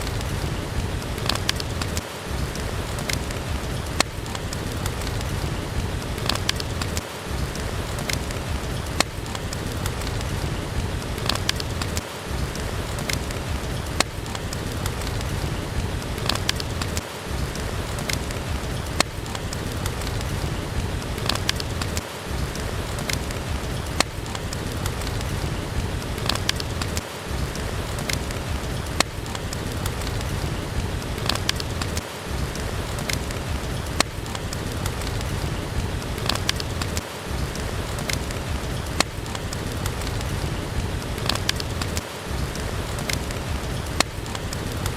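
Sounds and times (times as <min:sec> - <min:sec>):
steady rain: 0:00.0 - 0:44.9
wood fire crackling: 0:00.0 - 0:44.9
sharp clicks: 0:01.2 - 0:05.5, 0:06.2 - 0:10.5, 0:11.2 - 0:20.4, 0:21.2 - 0:25.5, 0:26.2 - 0:30.5, 0:31.2 - 0:40.5, 0:41.2 - 0:44.9.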